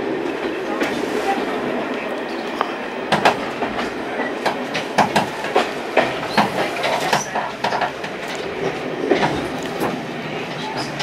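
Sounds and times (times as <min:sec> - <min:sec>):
train carriage rumbling on track: 0:00.0 - 0:11.0
wheels clicking over rail joints: 0:01.8 - 0:11.0.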